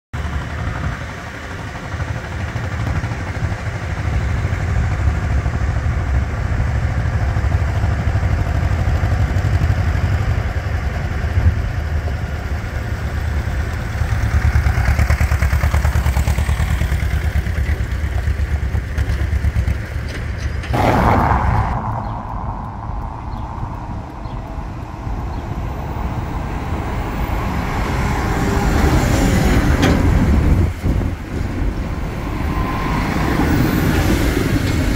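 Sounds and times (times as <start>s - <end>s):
tractor diesel engine rumble: 0.2s - 34.9s.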